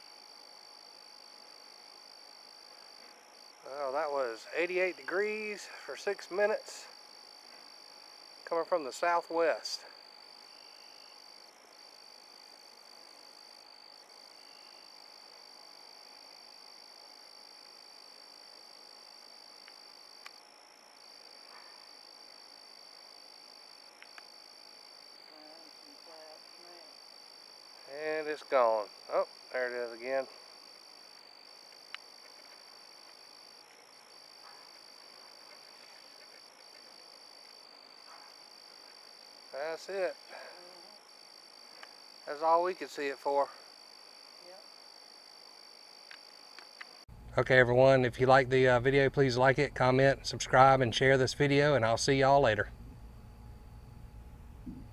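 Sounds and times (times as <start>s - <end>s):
high-pitched trilling of night animals: 0.0s - 47.0s.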